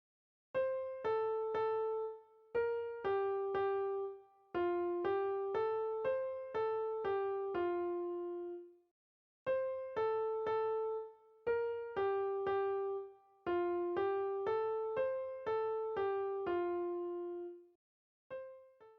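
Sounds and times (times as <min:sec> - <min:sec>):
gentle keyboard melody: 0:00.6 - 0:08.8, 0:09.5 - 0:17.7, 0:18.3 - 0:18.9.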